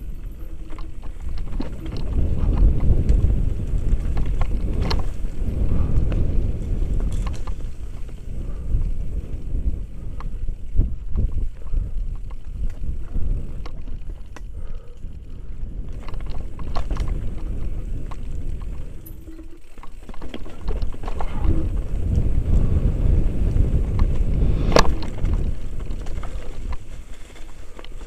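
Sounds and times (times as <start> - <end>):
bike clicking and rattling: 0.0 - 28.0
bike tyres rumbling on dirt: 0.0 - 28.0
wind on microphone: 0.0 - 28.0.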